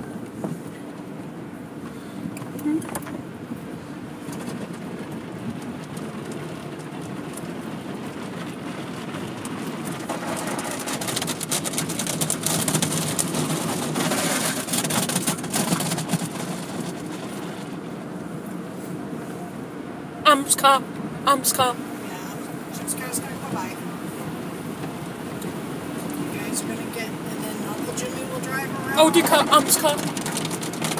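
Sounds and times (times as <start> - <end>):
water spraying onto car: 3.8 - 19.4, 21.7 - 30.9.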